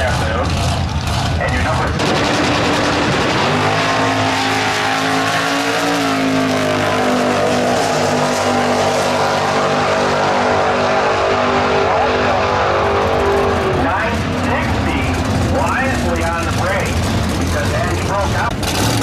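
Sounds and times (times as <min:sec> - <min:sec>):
cars accelerating hard: 0:00.0 - 0:19.0.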